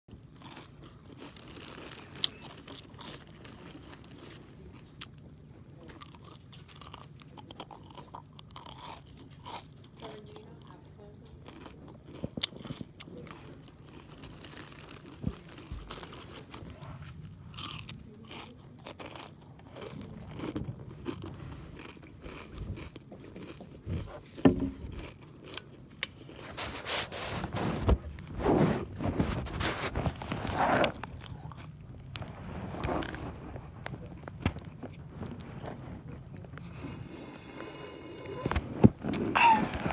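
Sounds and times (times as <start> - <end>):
person crunching chips: 0.2 - 5.2, 5.8 - 10.8, 11.4 - 28.3, 28.9 - 36.6, 39.1 - 39.9.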